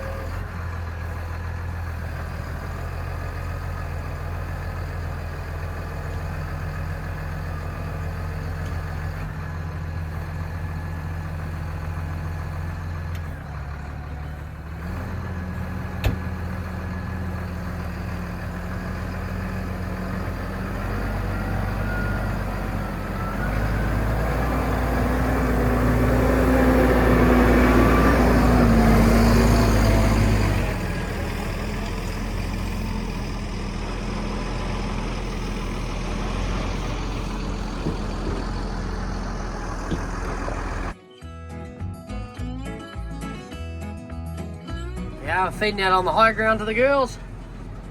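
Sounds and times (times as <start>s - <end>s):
heavy farm vehicle engine running: 0.0s - 41.0s, 44.7s - 47.9s.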